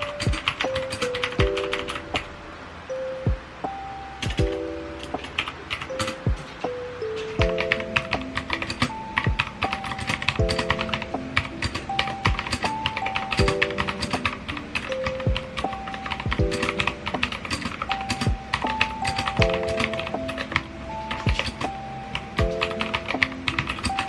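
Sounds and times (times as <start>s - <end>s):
typing on keyboard: 0.0s - 2.3s, 4.2s - 6.6s, 7.2s - 24.0s
soft background music: 0.0s - 24.0s.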